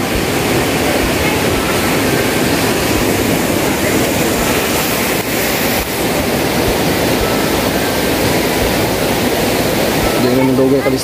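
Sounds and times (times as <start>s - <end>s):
shallow sea water rushing: 0.0s - 11.0s
wind: 0.0s - 11.0s.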